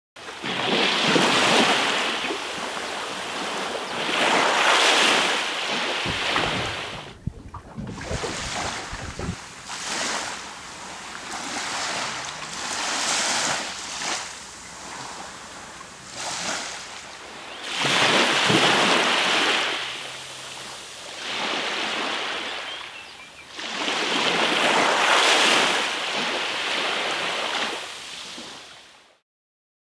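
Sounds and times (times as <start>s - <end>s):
sea waves washing onto beach: 0.2s - 28.9s.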